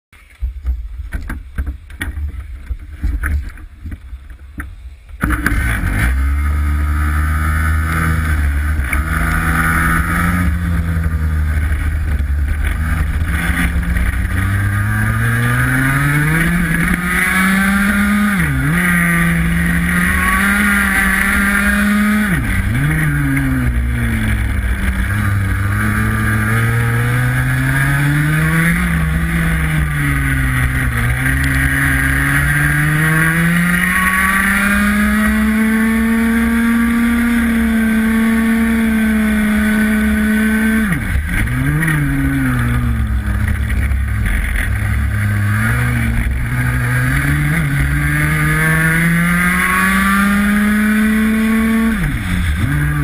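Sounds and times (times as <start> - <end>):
kart engine revving: 5.2 - 53.0.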